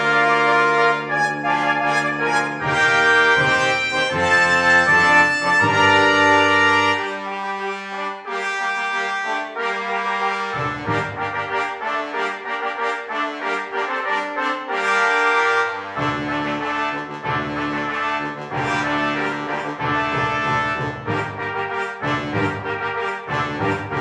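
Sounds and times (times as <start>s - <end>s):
brass music with held chords: 0.0s - 24.0s.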